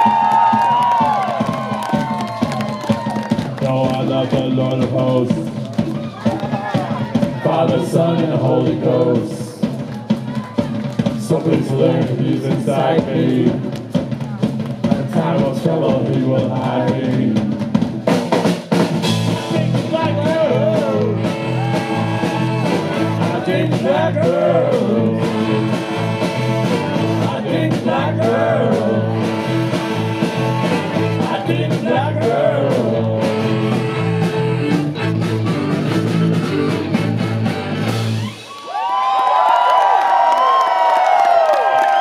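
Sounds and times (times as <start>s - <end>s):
live band with fiddle bass and drums: 0.0s - 38.5s.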